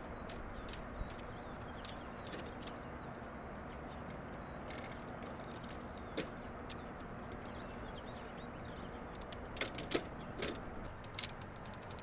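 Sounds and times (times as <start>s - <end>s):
antenna parts clicking: 0.0s - 2.9s, 3.7s - 7.9s, 8.7s - 12.0s.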